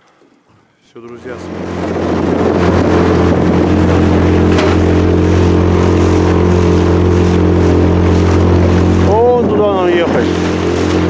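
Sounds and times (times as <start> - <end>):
outboard motor humming: 1.0 - 11.0
rushing water: 1.2 - 11.0
wind noise: 1.2 - 11.0.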